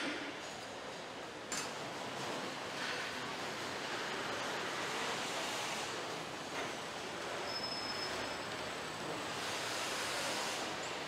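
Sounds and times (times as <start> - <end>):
factory hall hiss: 2.0 - 11.0.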